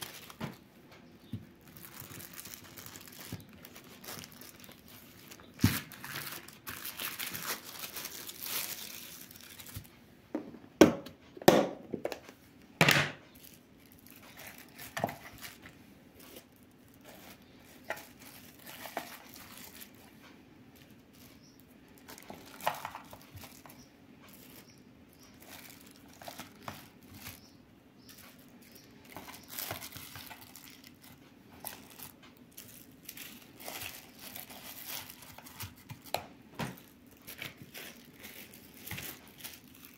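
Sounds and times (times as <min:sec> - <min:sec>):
plastic wrap crinkling: 0:00.0 - 0:10.0, 0:13.2 - 0:39.9.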